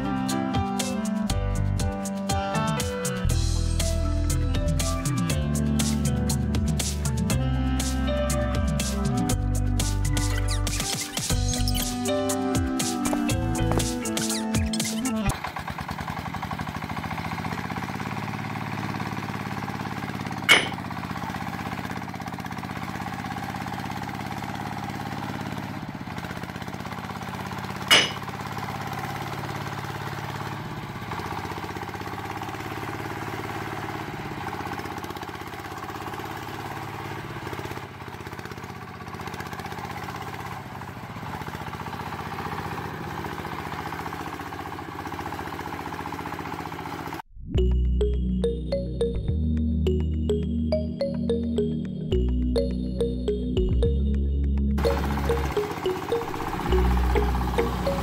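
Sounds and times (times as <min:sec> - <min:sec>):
tractor engine idling: 0:00.0 - 0:47.3, 0:49.9 - 0:58.0.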